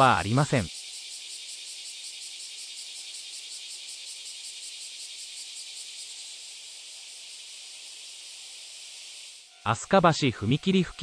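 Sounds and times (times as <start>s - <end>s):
cicadas singing: 0.0s - 11.0s.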